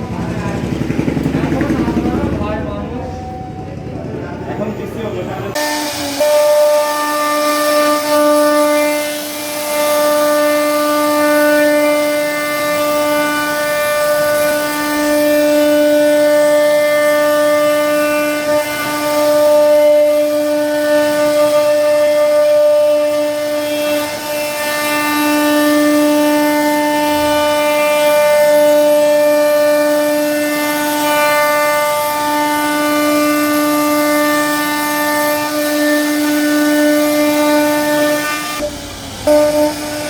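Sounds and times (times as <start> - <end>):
cnc router spindle whine: 0.0 - 40.0.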